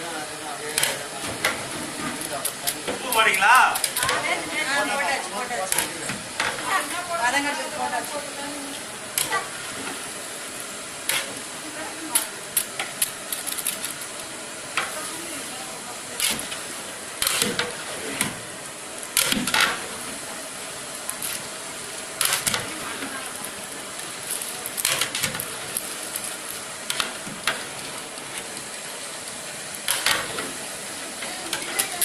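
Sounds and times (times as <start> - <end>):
chicken sizzling in a pot: 0.0 - 32.0.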